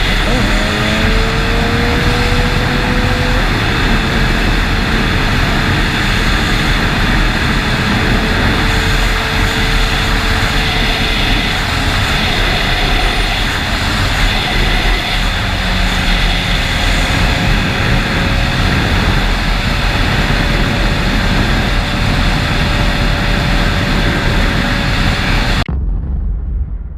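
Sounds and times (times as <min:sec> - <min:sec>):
motorcycle engine running: 0:00.0 - 0:25.7
loud rushing noise: 0:00.0 - 0:26.9.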